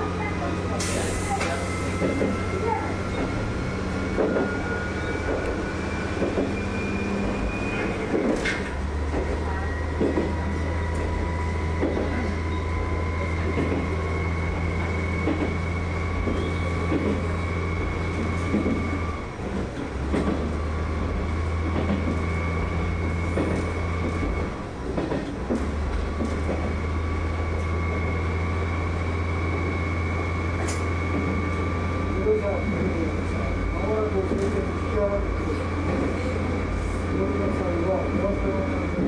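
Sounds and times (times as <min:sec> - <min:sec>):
diesel railcar engine drone: 0:00.0 - 0:39.0.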